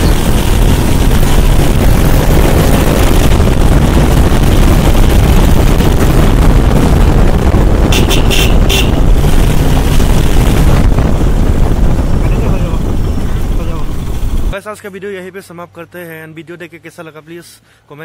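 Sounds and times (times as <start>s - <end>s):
motorcycle engine running: 0.0s - 14.6s
wind on microphone: 0.0s - 14.6s.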